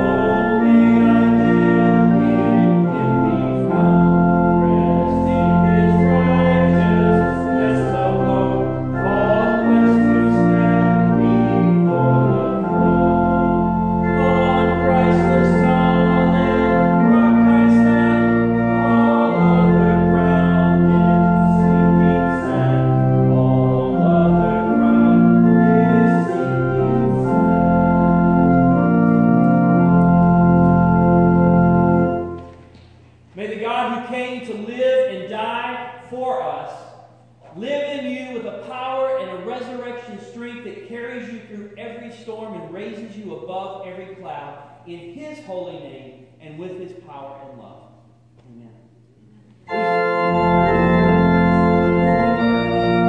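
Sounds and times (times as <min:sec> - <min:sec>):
organ playing slow chords: 0:00.0 - 0:48.3, 0:49.0 - 0:53.0.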